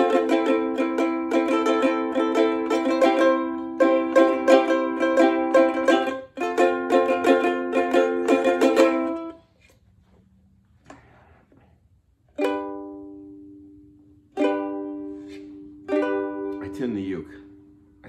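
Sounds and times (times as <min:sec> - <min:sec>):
ukulele strumming: 0:00.0 - 0:09.4, 0:12.3 - 0:18.0.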